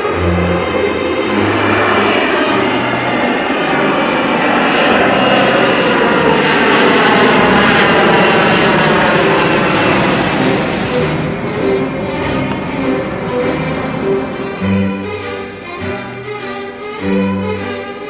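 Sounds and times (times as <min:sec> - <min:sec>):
airplane engines running: 0:00.0 - 0:18.0.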